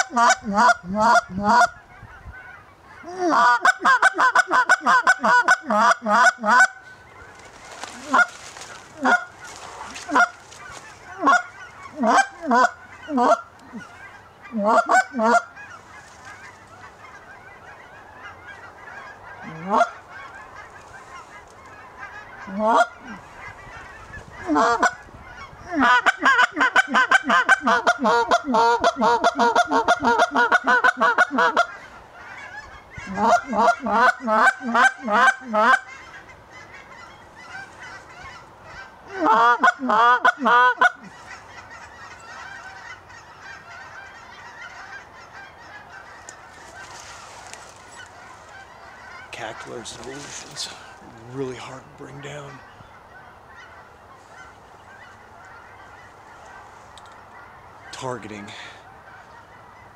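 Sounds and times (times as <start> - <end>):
goose call honks and clucks: 0.0 - 59.9.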